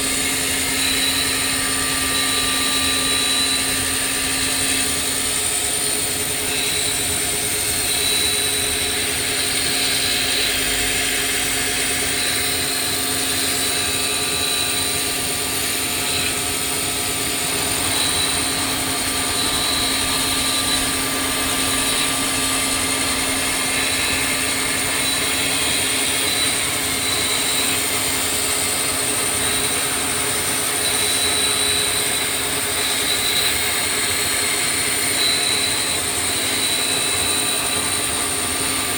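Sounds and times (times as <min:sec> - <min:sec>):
milling machine whine and hiss: 0:00.0 - 0:38.9.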